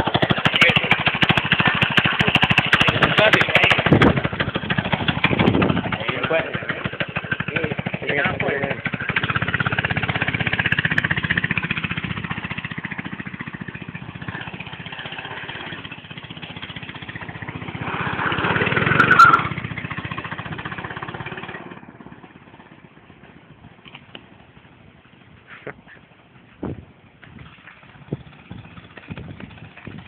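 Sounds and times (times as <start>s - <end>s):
go-kart engine running: 0.0s - 30.0s.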